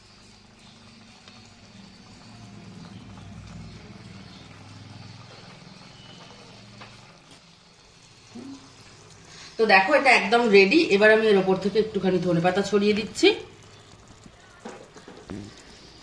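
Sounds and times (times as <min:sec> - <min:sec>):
curry boiling rumble: 0:00.0 - 0:16.0.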